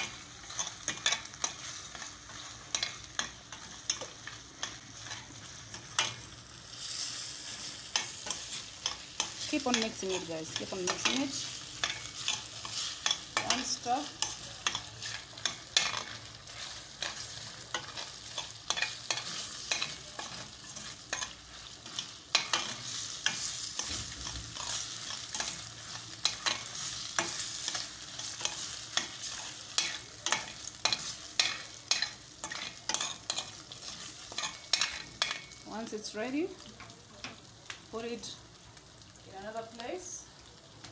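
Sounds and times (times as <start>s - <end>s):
spatula scraping frying pan: 0.0s - 35.6s
chicken sizzling: 0.0s - 40.9s.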